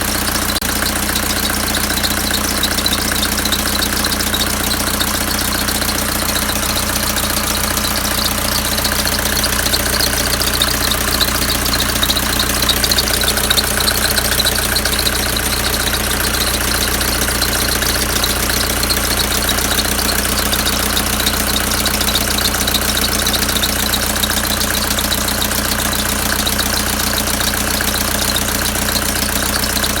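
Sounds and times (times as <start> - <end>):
diesel engine idling: 0.0 - 30.0
high-pitched squeak: 1.2 - 30.0.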